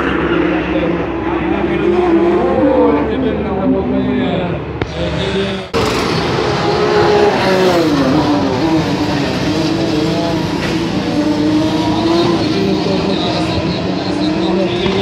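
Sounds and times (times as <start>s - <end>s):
race cars racing past: 0.0s - 15.0s.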